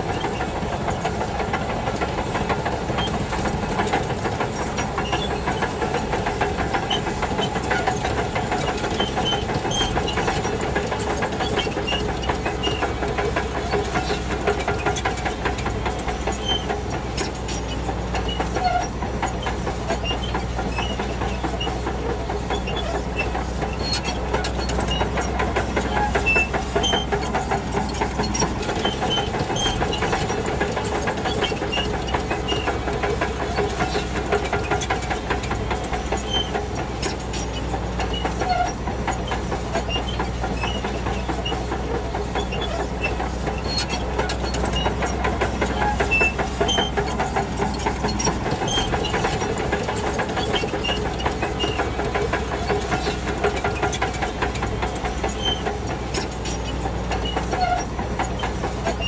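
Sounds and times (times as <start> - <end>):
bulldozer diesel engine: 0.0 - 59.0
steel tracks clattering: 0.0 - 59.0.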